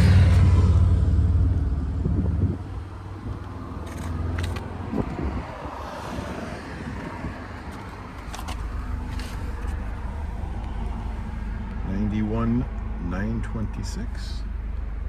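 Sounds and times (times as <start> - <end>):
car engine idling: 0.0 - 5.8, 6.8 - 15.0.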